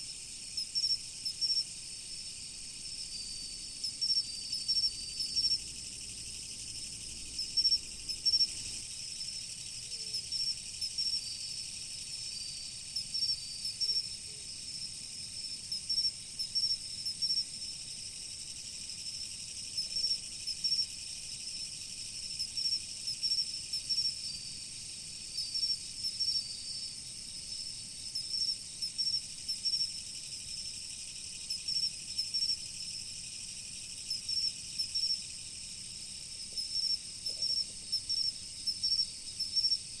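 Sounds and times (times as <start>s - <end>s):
crickets trilling and chirping: 0.0s - 40.0s.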